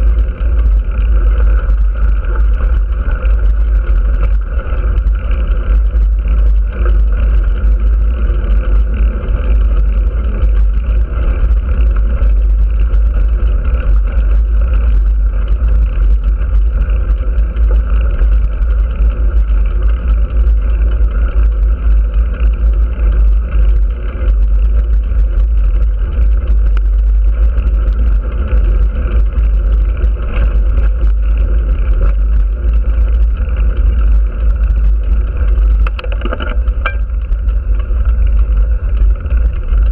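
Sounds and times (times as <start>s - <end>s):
vehicle hum: 0.0s - 39.9s.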